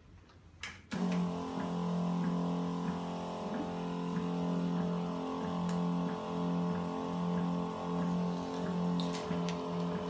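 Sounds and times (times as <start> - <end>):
laminating machine motor humming: 0.9 - 10.0.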